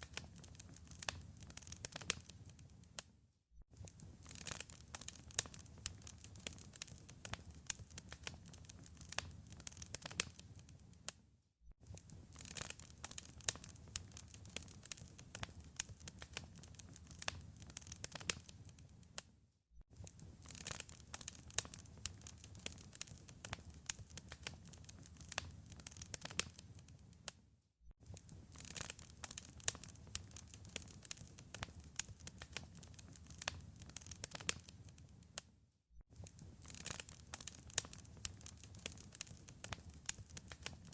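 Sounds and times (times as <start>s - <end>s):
wood fire crackling and popping: 0.0s - 3.1s, 3.8s - 11.1s, 11.8s - 19.2s, 20.0s - 27.4s, 28.0s - 35.4s, 36.1s - 40.9s.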